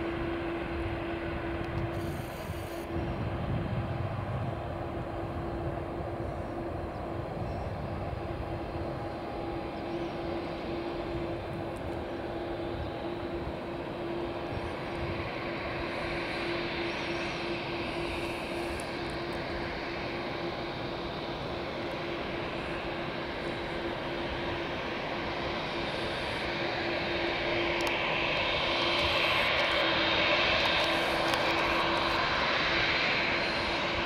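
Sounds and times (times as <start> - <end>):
jet engine drone: 0.0 - 34.0
jet engine whine: 0.0 - 34.0.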